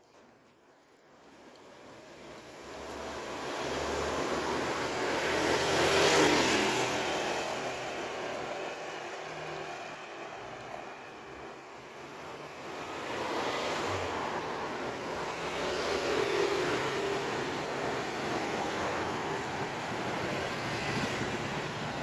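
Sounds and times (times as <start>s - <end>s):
vehicle passing by: 2.7s - 11.2s, 12.0s - 22.0s.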